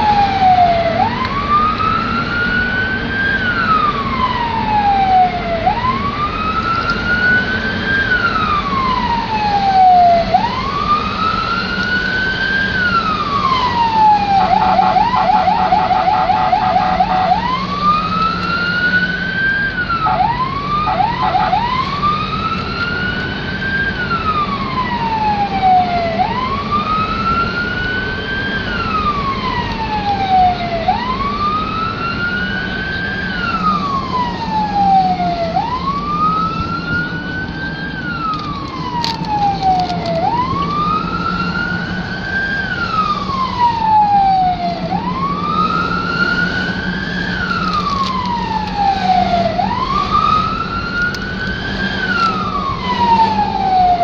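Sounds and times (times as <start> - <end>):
emergency siren wailing: 0.0 - 54.0
engine and road hum: 0.0 - 54.0.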